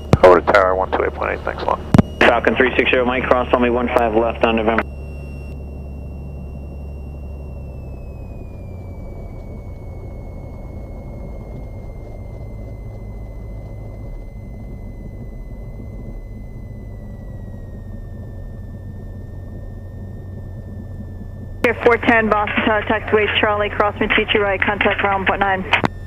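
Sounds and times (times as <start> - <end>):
faint high whine dropping in pitch: 0.0 - 26.0
propeller plane engine drone: 0.0 - 26.0.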